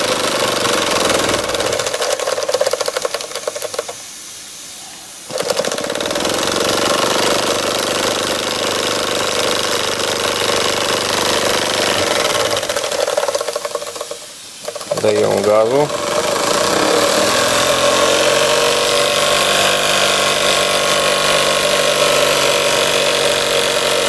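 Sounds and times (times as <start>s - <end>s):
steam engine running: 0.0s - 4.0s, 5.3s - 24.0s.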